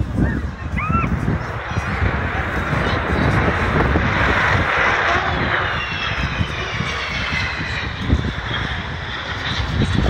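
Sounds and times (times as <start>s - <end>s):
high jet whine: 0.0s - 10.0s
jet aircraft flypast: 0.0s - 10.0s.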